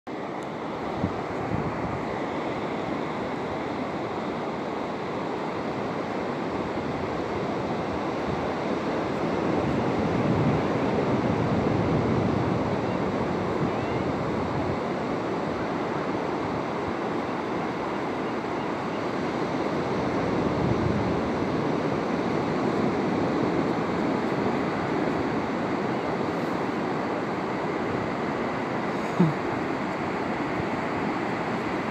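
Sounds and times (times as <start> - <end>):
ocean surf on sandy beach: 0.1 - 31.9.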